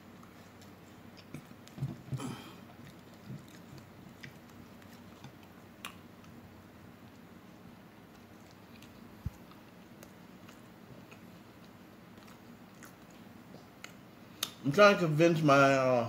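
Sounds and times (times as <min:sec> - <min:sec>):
wet chewing and mouth smacks: 0:00.0 - 0:14.6.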